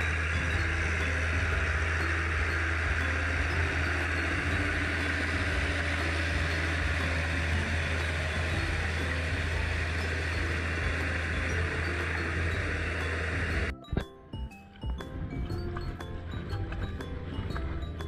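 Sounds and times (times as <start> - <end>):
tractor diesel engine running: 0.0 - 14.1, 14.9 - 18.0.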